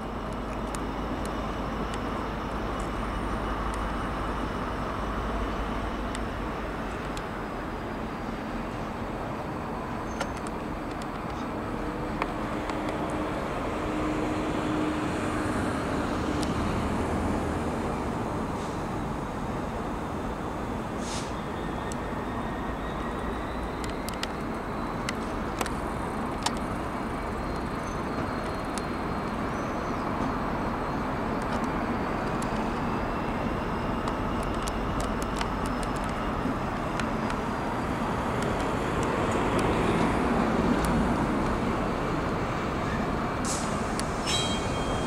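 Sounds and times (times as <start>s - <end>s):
diesel locomotive engine rumbling: 0.0s - 45.0s.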